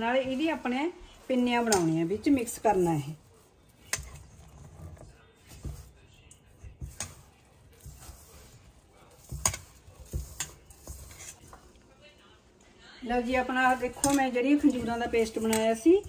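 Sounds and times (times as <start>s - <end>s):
hands kneading sticky dough: 0.0s - 12.0s, 13.1s - 16.0s.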